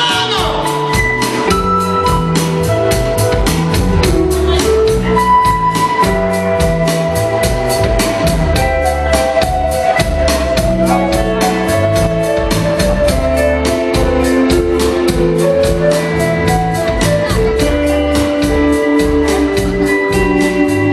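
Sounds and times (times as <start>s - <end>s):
band playing instrumental: 0.0s - 20.9s
drum beat with cymbal strikes: 0.0s - 20.9s.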